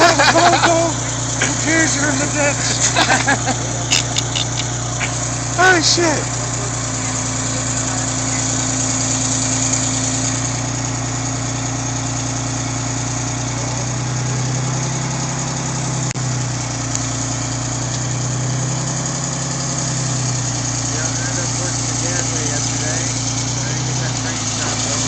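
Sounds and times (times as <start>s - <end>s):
large machinery engine running: 0.0s - 25.0s.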